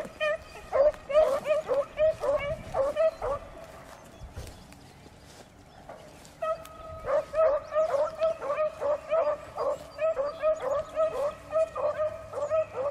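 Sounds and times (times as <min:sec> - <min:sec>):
dogs baying: 0:00.0 - 0:04.0, 0:06.3 - 0:12.9.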